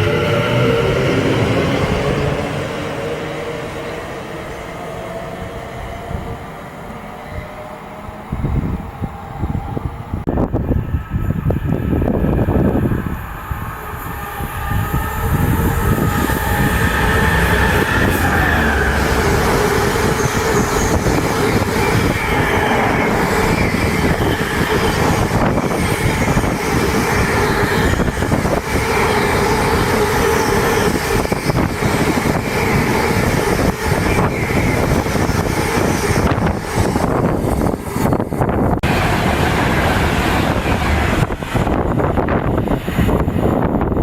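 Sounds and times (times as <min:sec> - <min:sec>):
train wheels on rails: 0:08.5 - 0:44.0.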